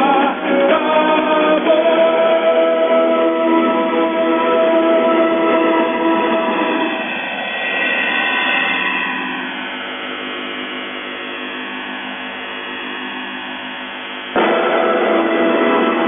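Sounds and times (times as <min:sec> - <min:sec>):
hissy distorted radio noise: 0:00.0 - 0:16.0
steady low modem tones: 0:00.0 - 0:16.0.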